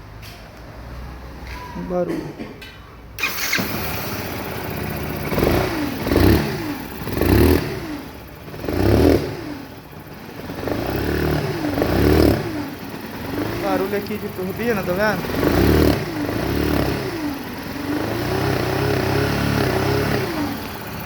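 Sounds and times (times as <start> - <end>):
motorcycle engine revving: 3.2 - 21.0.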